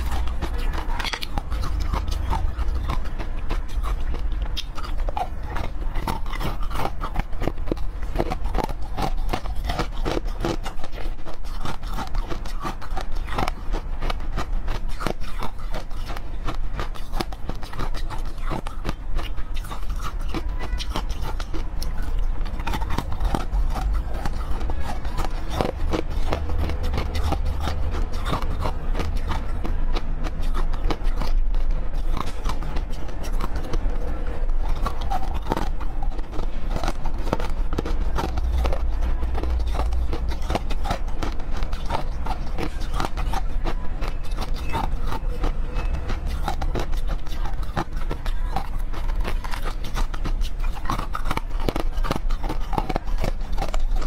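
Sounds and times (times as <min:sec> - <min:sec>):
crunching frozen cubes: 0:00.0 - 0:54.0.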